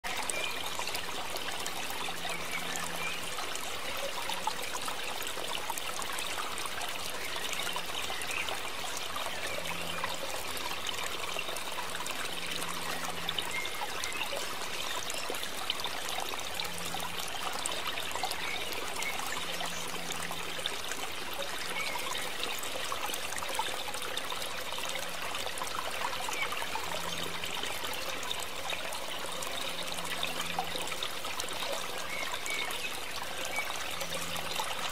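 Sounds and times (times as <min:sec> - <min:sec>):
trickling water: 0:00.0 - 0:34.9.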